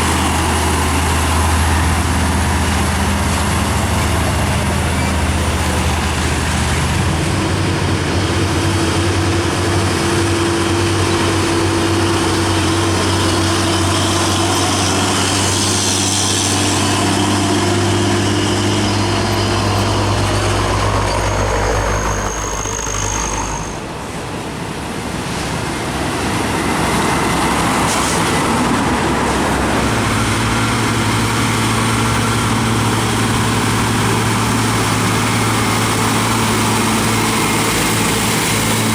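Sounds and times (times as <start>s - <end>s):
diesel trucks passing: 0.0s - 38.9s.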